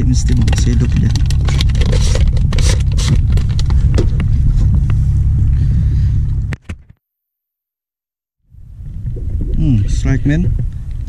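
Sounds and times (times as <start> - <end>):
wind rumble on microphone: 0.0 - 6.6, 8.5 - 11.0.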